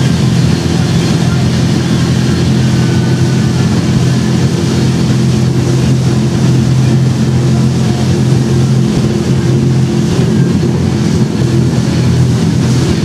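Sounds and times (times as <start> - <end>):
motorboat engine droning: 0.0 - 13.0
rush of boat wake: 0.0 - 13.0.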